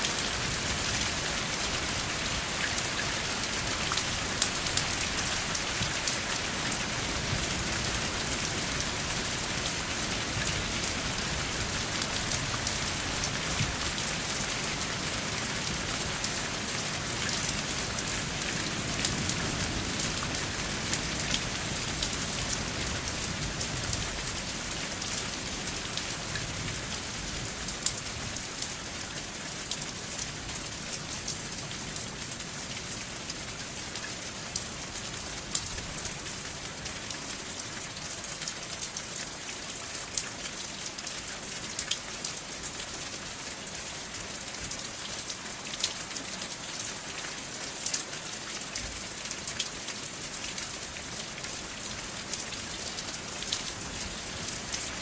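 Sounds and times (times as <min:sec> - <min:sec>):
raindrops ticking on a surface: 0:00.0 - 0:55.0
steady rain hiss: 0:00.0 - 0:55.0.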